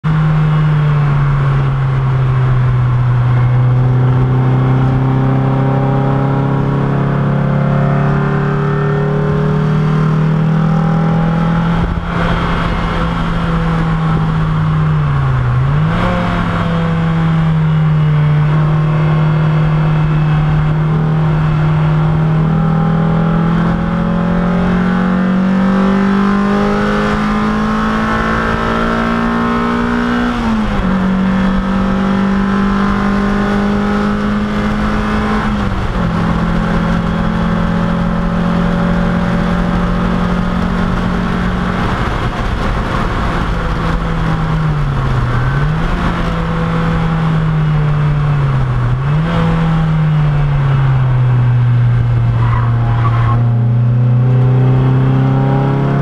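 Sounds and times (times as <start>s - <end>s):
race car engine: 0.0s - 56.0s
wind and road noise: 0.0s - 56.0s.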